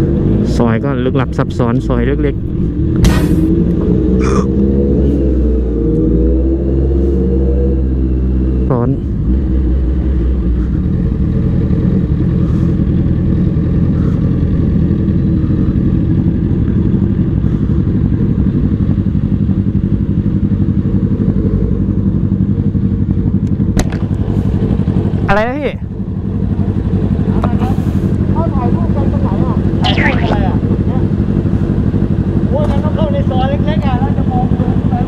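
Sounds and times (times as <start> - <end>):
motorcycle engine running: 0.0 - 6.4, 7.7 - 35.0.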